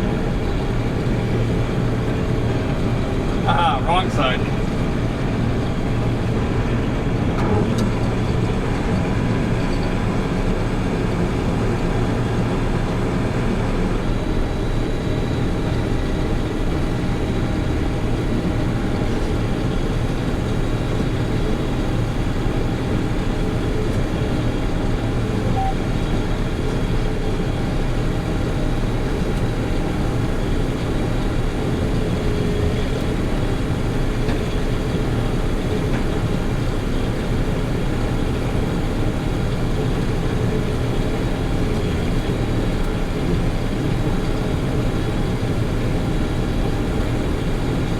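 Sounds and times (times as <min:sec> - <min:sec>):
combine harvester drone: 0:00.0 - 0:47.9.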